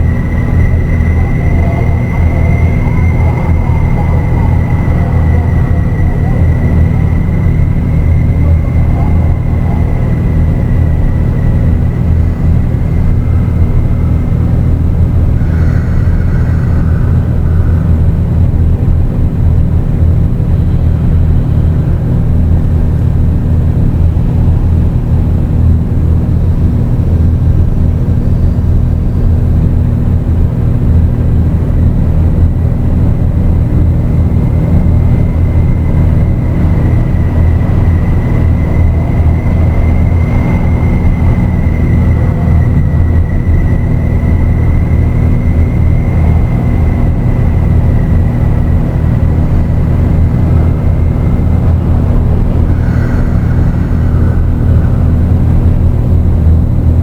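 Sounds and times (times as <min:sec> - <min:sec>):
dark ambient drone music: 0:00.0 - 0:57.0.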